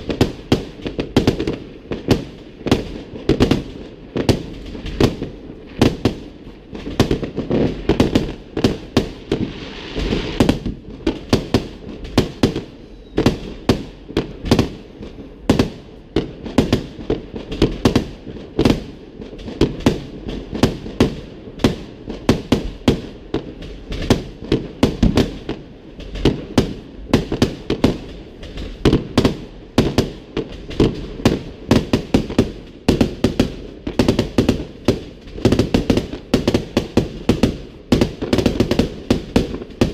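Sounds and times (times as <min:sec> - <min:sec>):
fireworks bangs and booms: 0:00.0 - 0:39.9
fireworks crackling hiss: 0:00.0 - 0:39.9.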